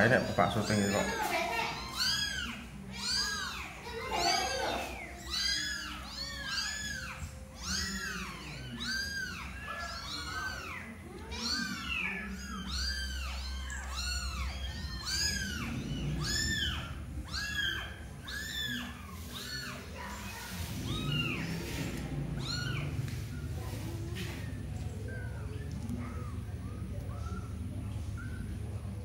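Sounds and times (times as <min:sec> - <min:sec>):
kittens mewing: 0:00.0 - 0:29.0.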